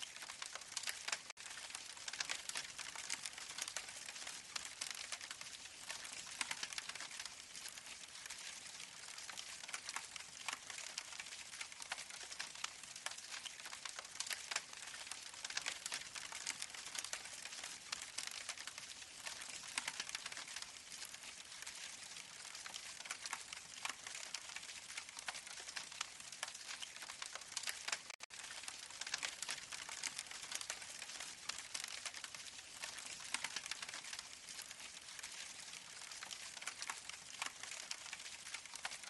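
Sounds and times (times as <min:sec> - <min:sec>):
recorded fire crackling through speaker: 0:00.0 - 0:39.0.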